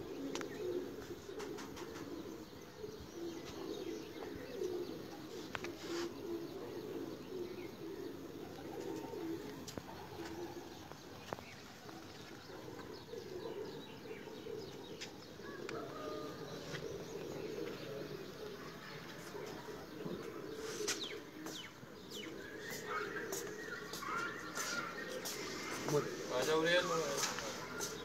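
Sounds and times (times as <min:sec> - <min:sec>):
pigeons cooing: 0:00.0 - 0:28.0
small birds chirping: 0:00.0 - 0:28.0.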